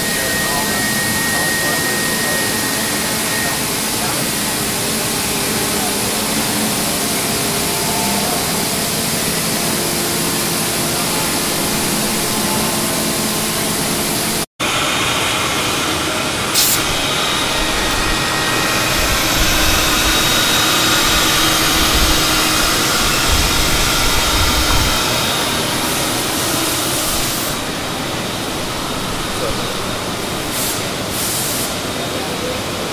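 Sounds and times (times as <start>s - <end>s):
sanding machinery: 0.0s - 32.0s
cnc router spindle whirring: 0.0s - 32.9s
dust extraction running: 0.0s - 32.9s.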